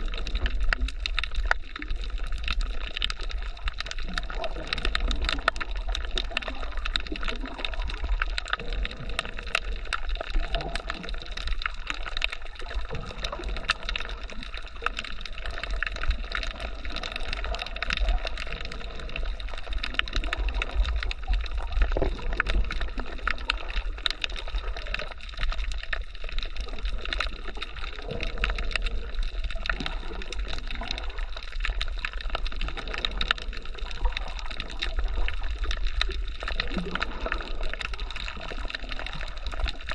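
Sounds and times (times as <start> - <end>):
dense crackling clicks: 0.0 - 39.9
underwater water noise: 0.0 - 39.9.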